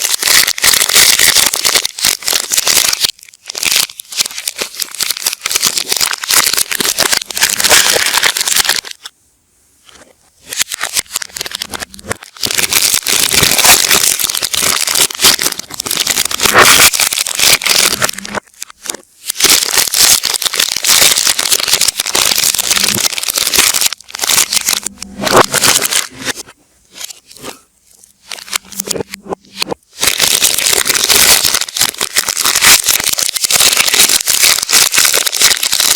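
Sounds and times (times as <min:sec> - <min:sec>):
wrappers crinkling reversed: 0:00.0 - 0:09.1, 0:10.4 - 0:27.5, 0:28.2 - 0:35.9.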